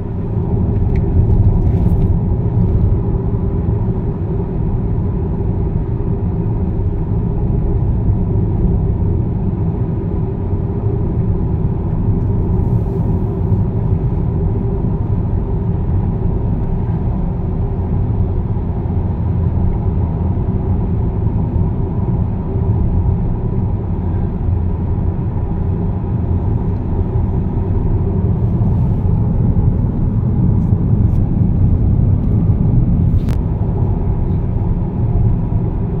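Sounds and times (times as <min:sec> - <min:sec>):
car driving on road from inside: 0:00.0 - 0:36.0.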